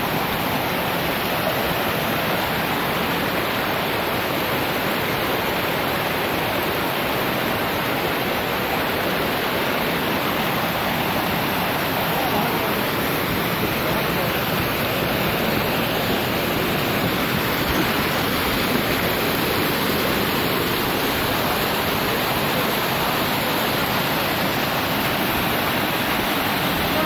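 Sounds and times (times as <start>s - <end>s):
stream rushing over boulders: 0.0s - 27.0s.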